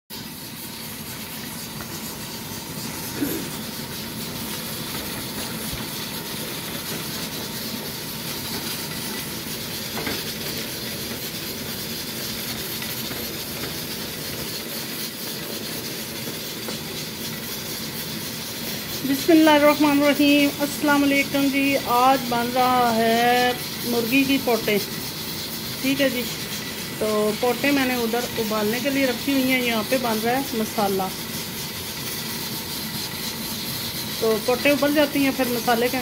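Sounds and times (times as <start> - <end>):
spices sizzling in a pot: 0.1 - 36.0.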